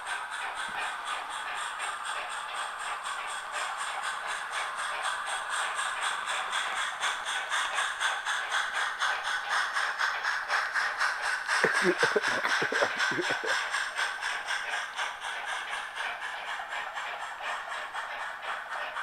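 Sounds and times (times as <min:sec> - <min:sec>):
model locomotive steam chuffs: 0:00.0 - 0:19.0.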